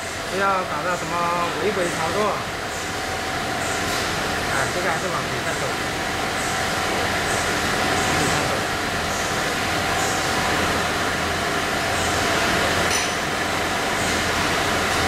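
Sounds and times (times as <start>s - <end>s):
machine running with mid-pitched hum: 0.0s - 15.0s.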